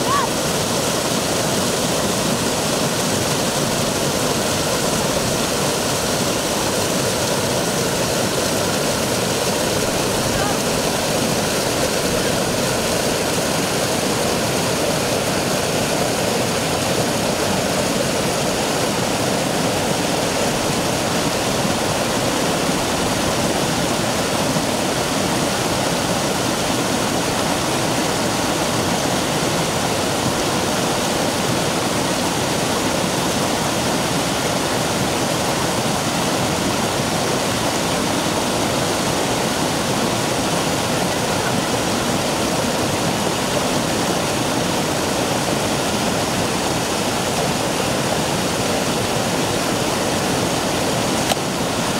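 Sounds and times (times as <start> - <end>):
stream rushing over rocks: 0.0 - 51.9.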